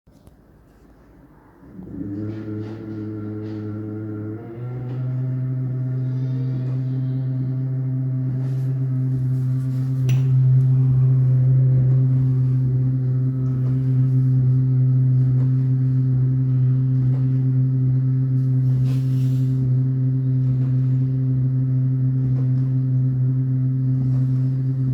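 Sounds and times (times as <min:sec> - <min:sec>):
dishwasher humming: 0:00.8 - 0:24.9.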